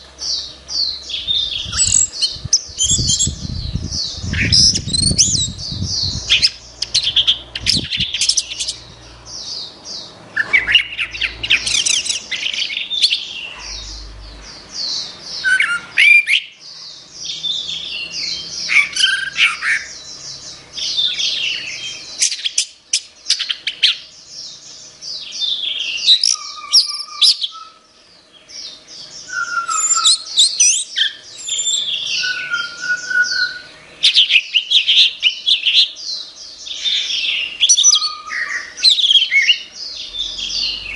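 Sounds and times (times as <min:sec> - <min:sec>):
thrush singing chirps and trills: 0:00.0 - 0:40.9.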